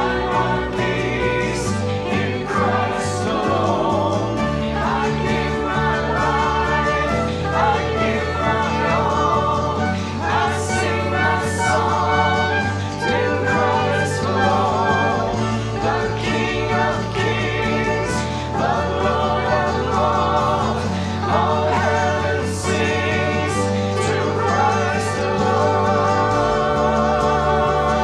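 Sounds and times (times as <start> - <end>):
band playing and singing a hymn: 0.0 - 28.0.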